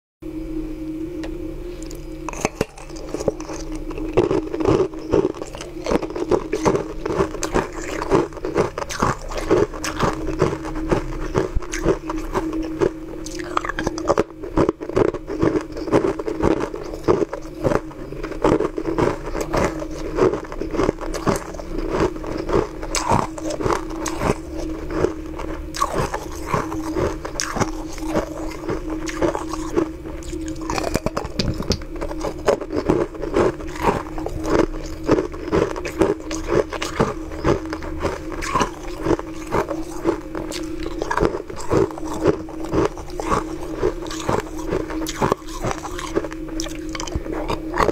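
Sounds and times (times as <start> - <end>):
crunching of ice being chewed: 1.8 - 47.9.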